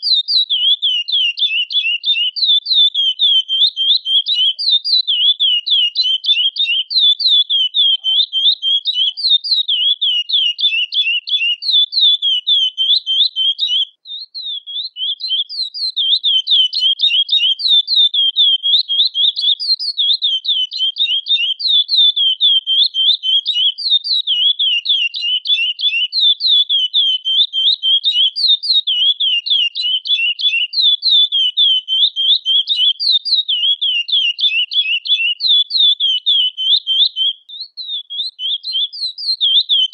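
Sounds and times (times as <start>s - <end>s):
finch chirping rapidly: 0.0s - 39.9s.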